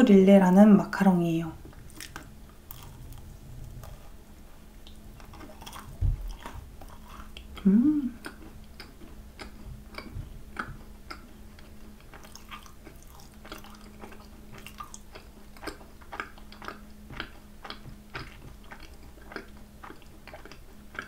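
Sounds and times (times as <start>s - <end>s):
chewing crunchy macaron: 1.7s - 21.0s.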